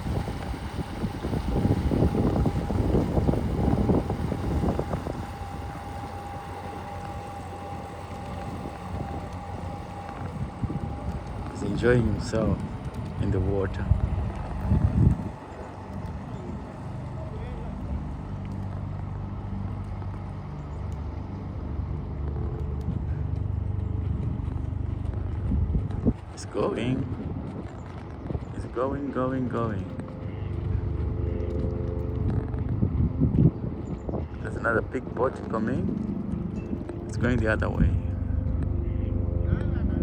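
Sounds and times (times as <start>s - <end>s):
faint steady hum: 0.0s - 40.0s
wind buffeting microphone: 0.0s - 40.0s.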